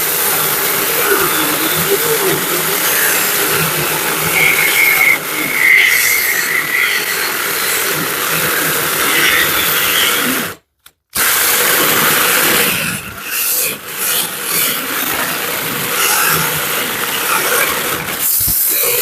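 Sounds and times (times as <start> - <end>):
mini chainsaw cutting wood: 0.0 - 19.0.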